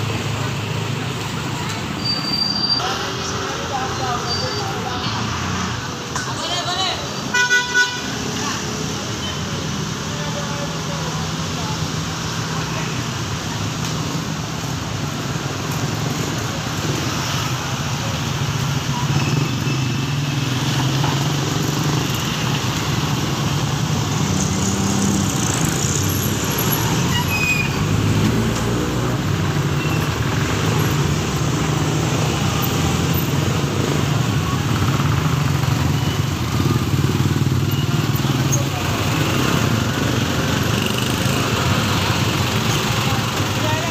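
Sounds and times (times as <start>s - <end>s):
cars passing: 0.0s - 43.9s
motorcycles passing: 0.0s - 43.9s.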